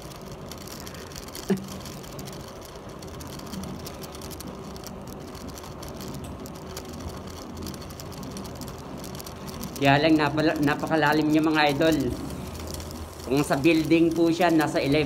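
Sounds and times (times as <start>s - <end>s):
bicycle freewheel ticking: 0.0s - 15.0s.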